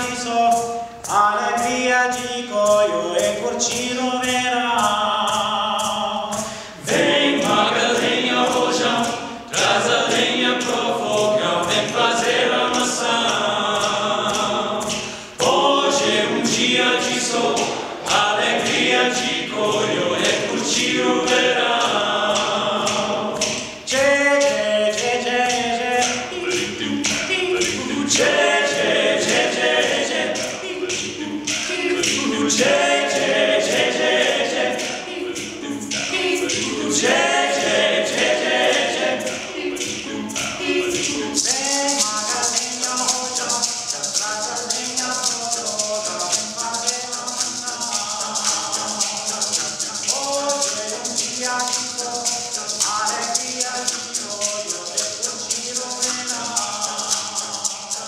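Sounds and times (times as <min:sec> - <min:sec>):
men singing in close harmony: 0:00.0 - 0:58.0
shaker rhythm: 0:00.0 - 0:58.0.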